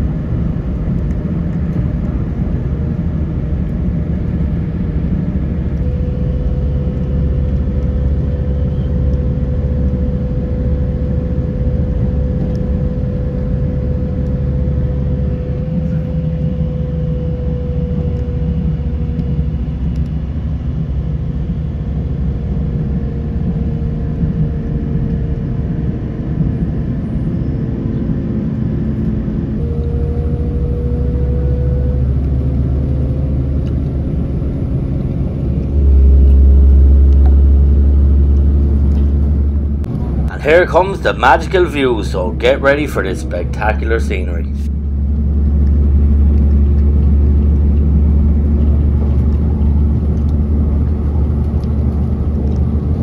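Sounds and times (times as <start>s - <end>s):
train interior rumble: 0.0s - 53.0s
faint whine: 3.1s - 53.0s.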